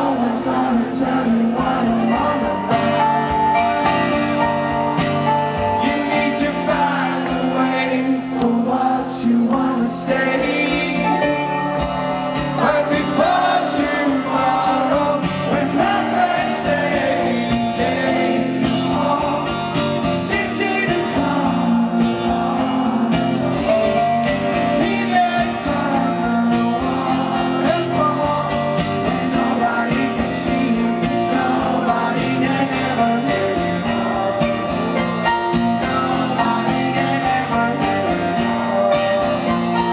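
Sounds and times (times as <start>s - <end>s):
lead vocal singing: 0.0s - 39.9s
live rock band playing: 0.0s - 39.9s
strummed guitars: 0.0s - 39.9s.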